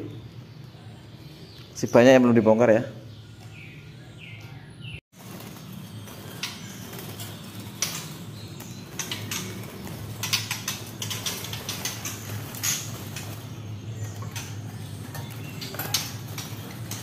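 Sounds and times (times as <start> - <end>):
birds fluttering in cages: 0.0 - 17.0.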